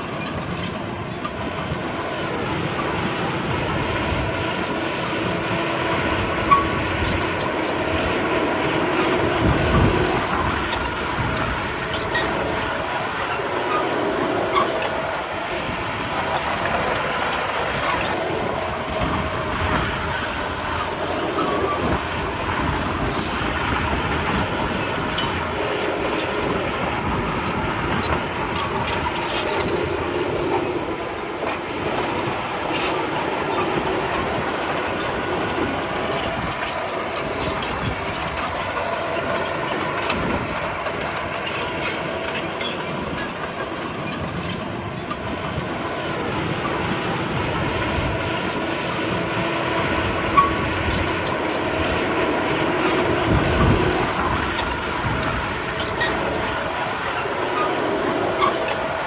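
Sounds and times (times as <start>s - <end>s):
bulldozer diesel engine running: 0.0s - 59.0s
steel tracks clanking and squealing: 0.0s - 59.0s.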